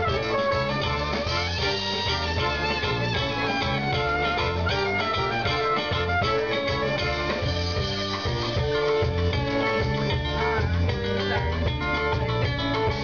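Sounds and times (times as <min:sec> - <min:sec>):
guitar: 0:00.0 - 0:13.0
pulsing bass line: 0:00.0 - 0:13.0
saxophone: 0:00.0 - 0:13.0.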